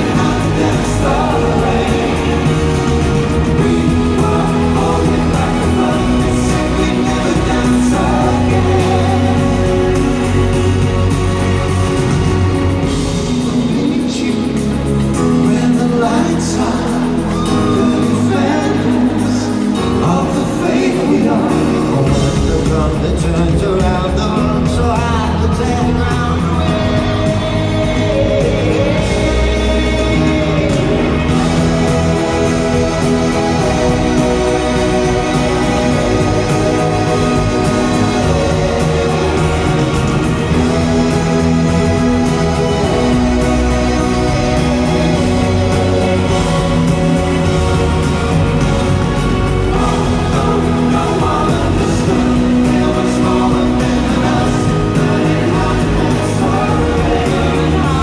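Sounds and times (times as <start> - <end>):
live pop band in arena: 0.0 - 58.0.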